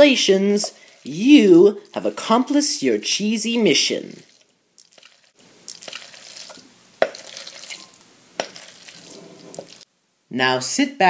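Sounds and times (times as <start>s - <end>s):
macaroni squelching and plopping: 0.6s - 9.8s.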